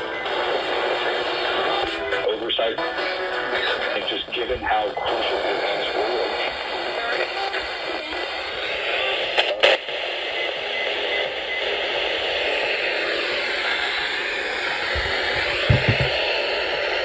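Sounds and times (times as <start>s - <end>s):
radio static hiss: 0.0s - 2.8s, 3.5s - 16.3s.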